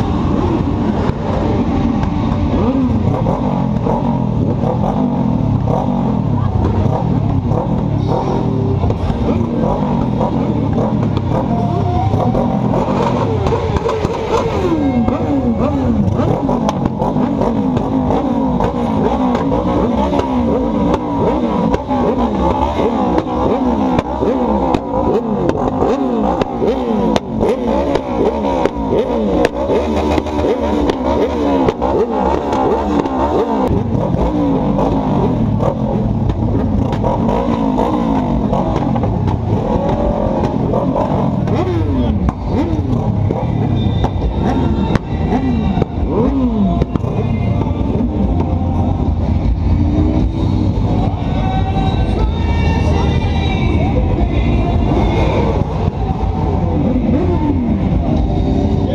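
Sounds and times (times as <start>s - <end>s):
motorcycle engines running: 0.0s - 58.9s
motorcycles revving: 0.0s - 58.9s.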